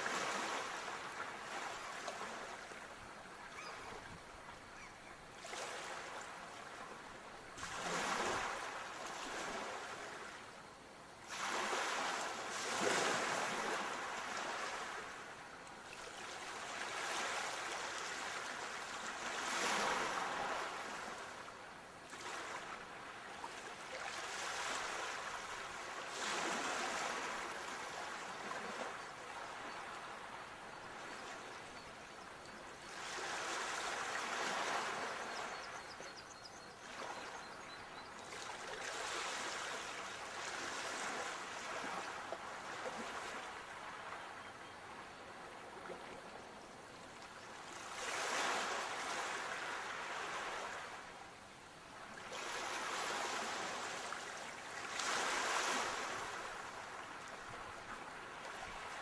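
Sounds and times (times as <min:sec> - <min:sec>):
sea waves breaking on shore: 0:00.0 - 0:02.9, 0:04.8 - 0:10.4, 0:11.2 - 0:21.5, 0:22.1 - 0:31.6, 0:32.8 - 0:35.6, 0:38.3 - 0:44.4, 0:47.6 - 0:51.2, 0:52.0 - 0:59.0.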